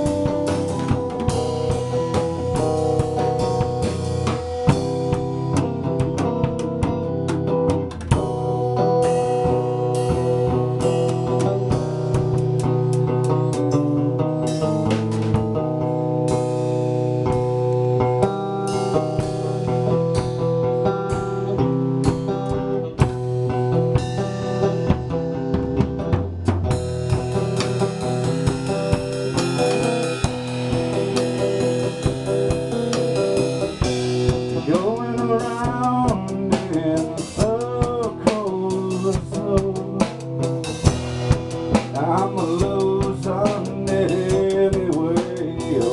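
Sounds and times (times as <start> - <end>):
drum kit played with sticks: 0.0 - 45.9
music with sustained guitar notes: 0.0 - 45.9.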